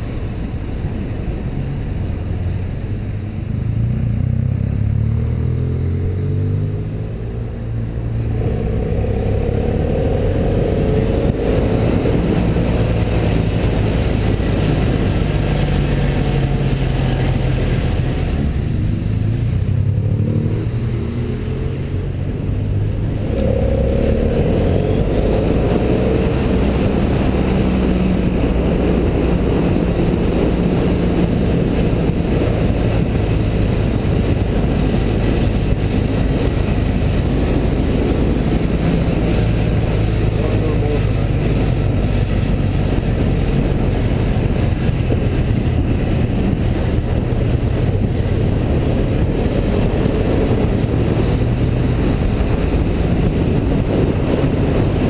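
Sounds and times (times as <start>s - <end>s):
motorcycle engine: 0.0s - 55.0s
wind noise: 0.0s - 55.0s.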